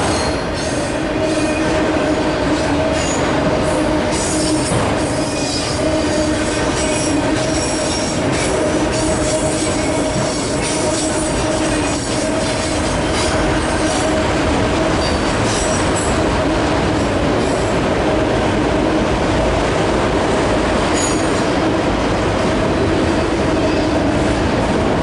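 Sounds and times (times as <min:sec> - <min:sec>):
freight cars rumbling on rails: 0:00.0 - 0:25.0.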